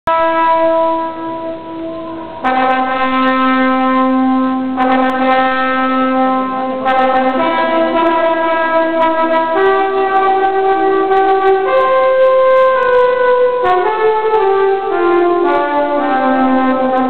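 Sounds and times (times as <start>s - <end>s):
slow instrumental music: 0.1s - 17.0s.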